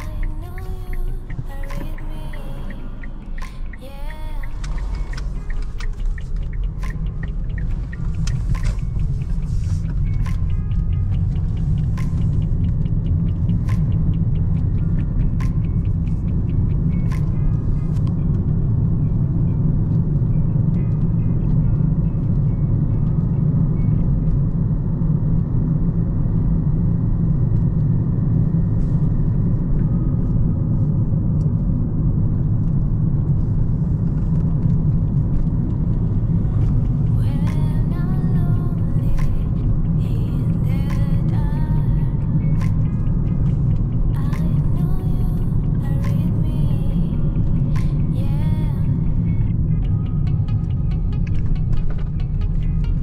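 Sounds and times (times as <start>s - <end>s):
engine and road rumble: 0.0s - 53.0s.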